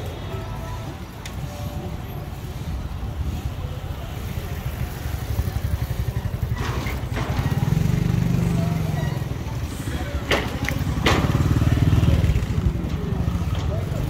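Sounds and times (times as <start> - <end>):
outdoor noise: 0.0 - 14.0.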